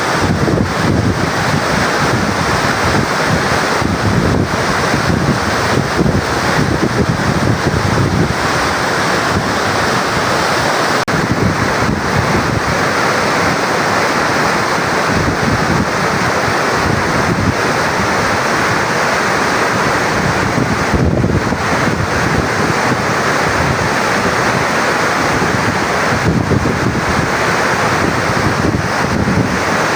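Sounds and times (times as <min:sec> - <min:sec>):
water roaring down spillway: 0:00.0 - 0:29.9
wind buffeting microphone: 0:00.0 - 0:29.9.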